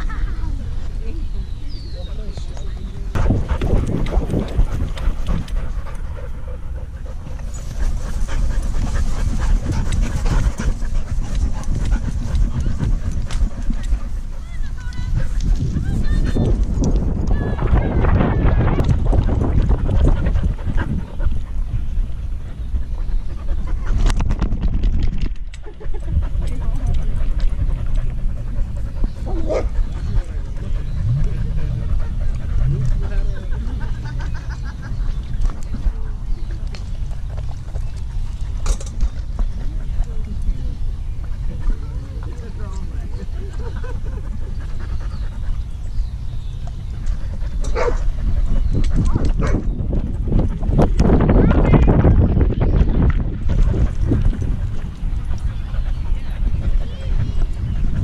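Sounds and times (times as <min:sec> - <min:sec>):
low rumble of mount rubbing microphone: 0:00.7 - 0:58.0
dog panting: 0:02.1 - 0:16.8, 0:19.0 - 0:24.2, 0:25.6 - 0:51.2, 0:53.4 - 0:58.0.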